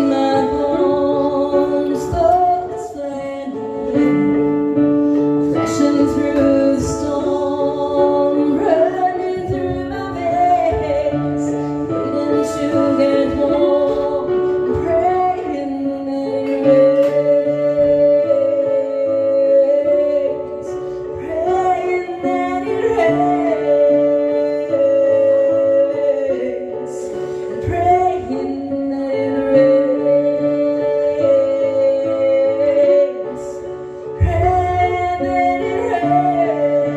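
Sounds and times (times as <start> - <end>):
instrumental backing: 0.0 - 36.9.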